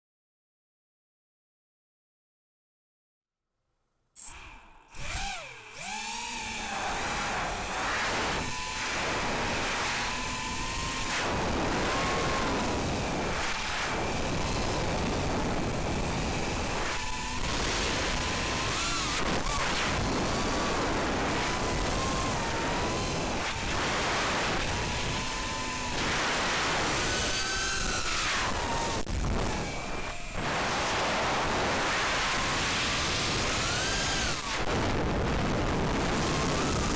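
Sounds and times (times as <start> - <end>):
drone motors whining: 4.2 - 36.9
wind rush on microphone: 6.8 - 36.9.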